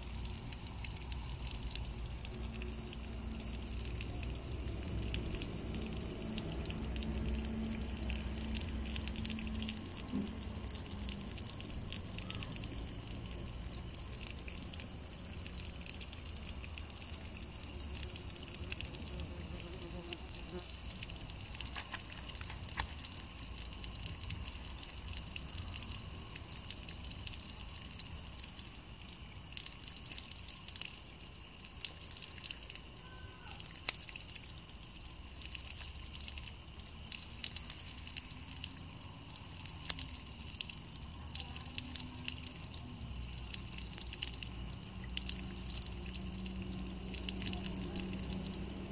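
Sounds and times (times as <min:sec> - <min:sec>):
water dripping and trickling: 0:00.0 - 0:48.9.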